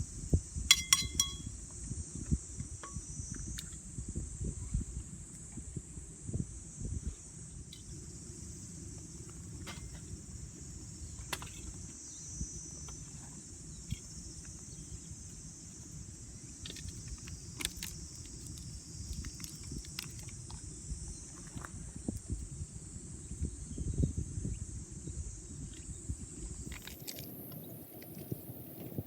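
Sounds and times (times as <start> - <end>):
high-pitched insect trill: 0.0 - 29.0.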